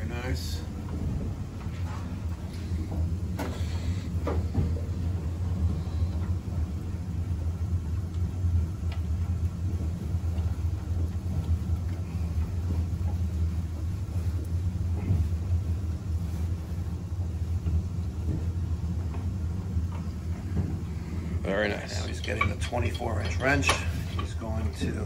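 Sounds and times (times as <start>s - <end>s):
boiler-room machinery hum: 0.0s - 25.0s.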